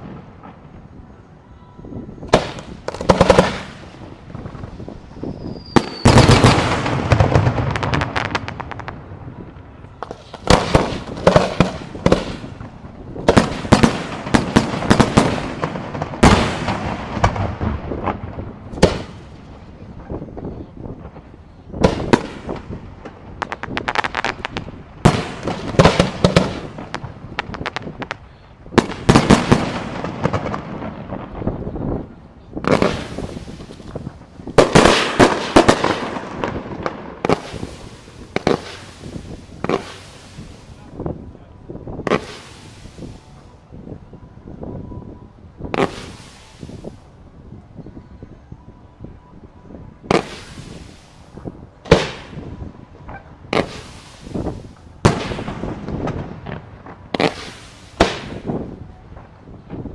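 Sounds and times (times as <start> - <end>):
fireworks bursting with echo: 2.2 - 44.0, 45.6 - 47.2, 50.0 - 59.9.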